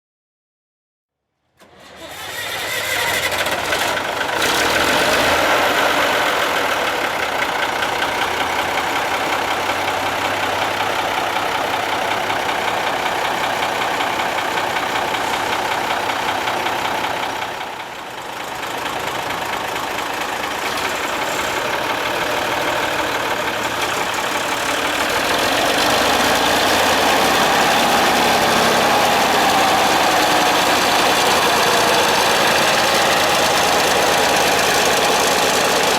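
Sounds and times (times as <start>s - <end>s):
truck engine running: 2.0s - 35.9s.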